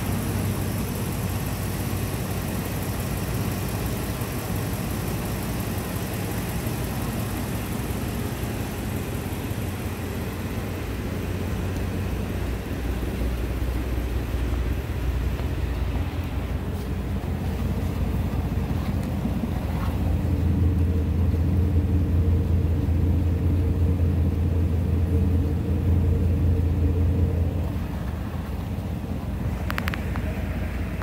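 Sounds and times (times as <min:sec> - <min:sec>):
van engine idling: 0:00.0 - 0:31.0.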